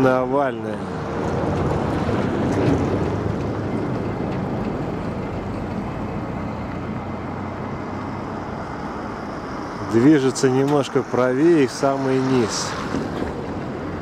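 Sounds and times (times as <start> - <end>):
road vehicle passing by: 0.0 - 14.0.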